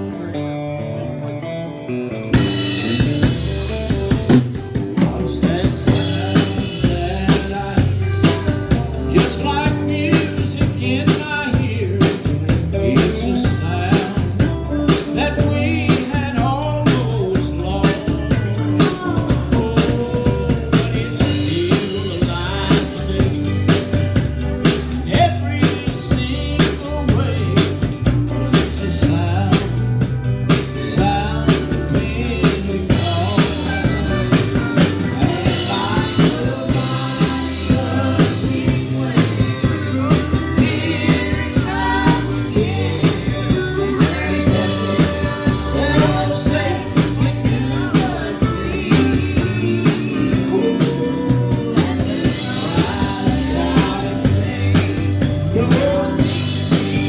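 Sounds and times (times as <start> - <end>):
live band playing gospel: 0.0 - 57.0
drum kit beat: 2.1 - 57.0
voices singing: 2.4 - 57.0.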